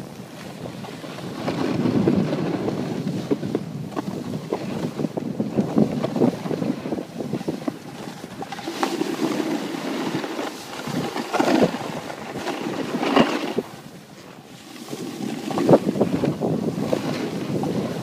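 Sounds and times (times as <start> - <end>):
skis scraping over packed snow: 0.0 - 18.0
wind buffeting microphone: 0.0 - 18.0.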